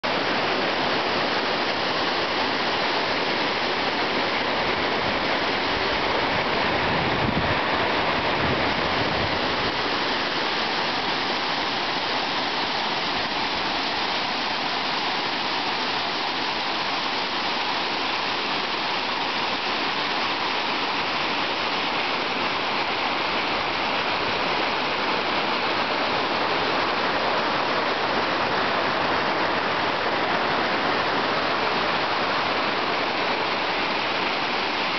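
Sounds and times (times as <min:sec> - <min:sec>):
waterfall rushing over rocks: 0:00.0 - 0:34.9.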